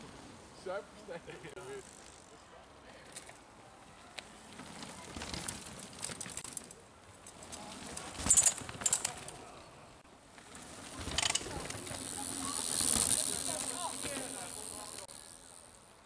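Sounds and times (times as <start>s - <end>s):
bike tyres on dirt: 1.5s - 16.0s
bikes rattling clicks: 1.6s - 3.5s, 4.1s - 9.6s, 10.3s - 16.0s.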